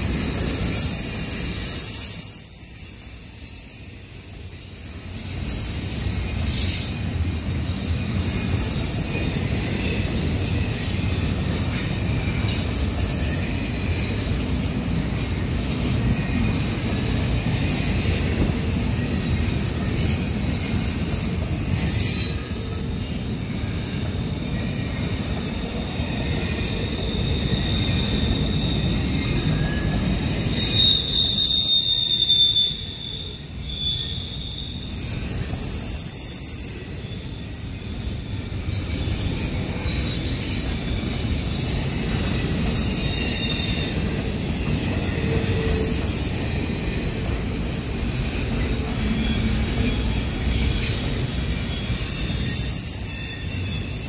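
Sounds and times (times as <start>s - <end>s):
rumble of train wheels: 0.0s - 54.0s
high-pitched wheel squeal: 0.1s - 8.1s, 12.5s - 23.2s, 24.9s - 54.0s.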